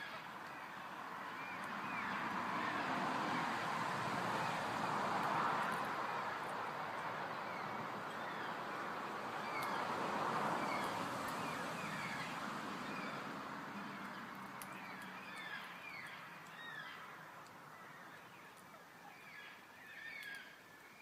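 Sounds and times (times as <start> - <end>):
birds chirping: 0.0 - 2.6, 5.6 - 21.0.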